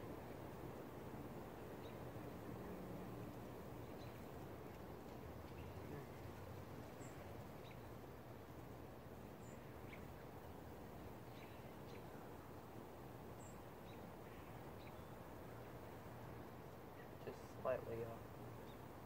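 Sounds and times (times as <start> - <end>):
low rush of background noise: 0.0 - 19.0.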